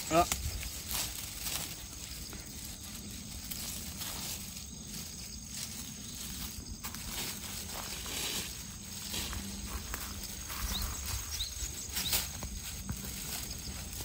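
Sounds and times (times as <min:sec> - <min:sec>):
plastic bag rustling: 0:00.0 - 0:14.0
rustling in dry leaves: 0:00.0 - 0:14.0.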